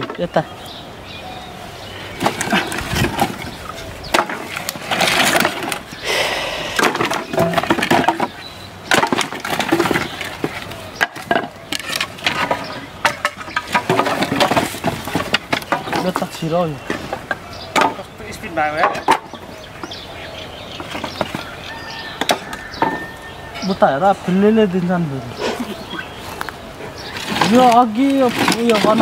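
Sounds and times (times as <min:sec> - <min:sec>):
wooden pieces clattering: 0:02.2 - 0:20.0, 0:20.7 - 0:24.6, 0:25.5 - 0:29.0.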